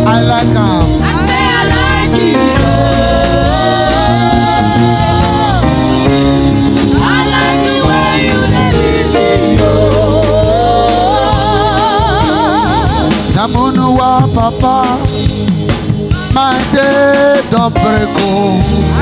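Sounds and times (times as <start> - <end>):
band accompaniment: 0.0 - 19.0
person singing with vibrato: 0.0 - 19.0.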